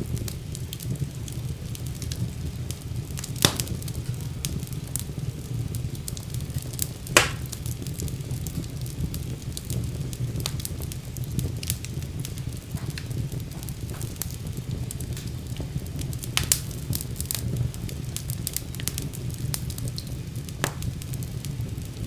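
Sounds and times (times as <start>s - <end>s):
loud fire pops: 0.0s - 22.0s
wood fire crackling: 0.0s - 22.0s.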